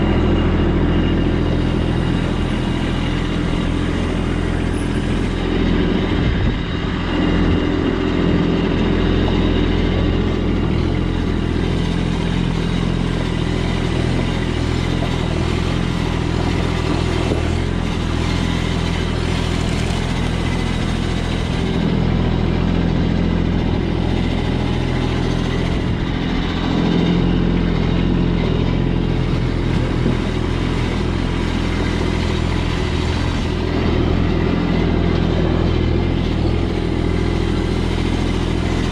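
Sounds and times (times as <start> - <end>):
vehicle engine running at low revs: 0.0 - 38.9.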